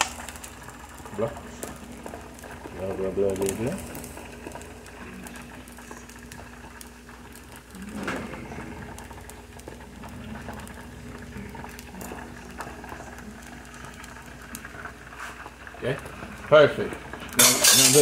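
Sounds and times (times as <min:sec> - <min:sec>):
rice sizzling in a pan: 0:00.0 - 0:18.0.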